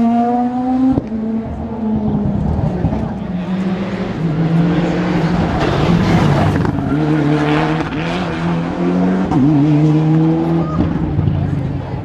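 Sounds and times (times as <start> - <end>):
rally car engine shifting gears: 0.0 - 12.0.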